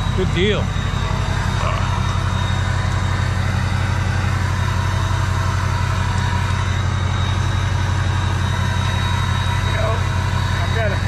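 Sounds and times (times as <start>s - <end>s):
high-pitched whine: 0.0s - 11.0s
truck engine idling: 0.0s - 11.0s.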